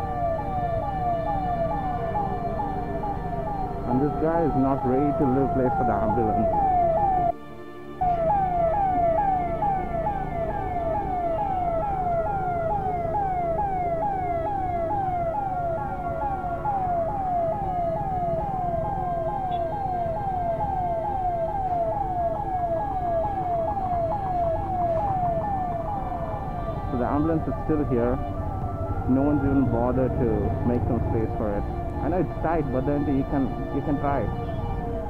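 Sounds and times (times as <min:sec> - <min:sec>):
traffic and engine rumble: 0:00.0 - 0:07.3, 0:08.0 - 0:35.0
ambulance siren: 0:00.0 - 0:35.0.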